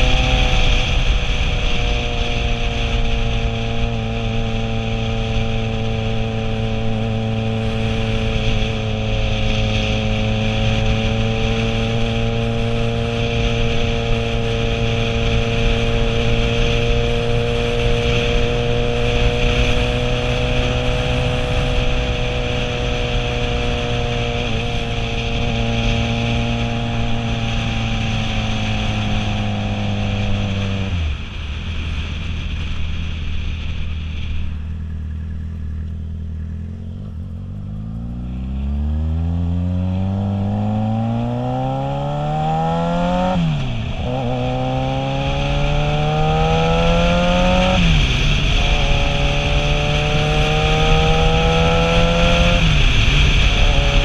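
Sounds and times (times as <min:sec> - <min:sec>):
motorcycle engine: 0:00.0 - 0:54.0
wind rush: 0:00.0 - 0:54.0.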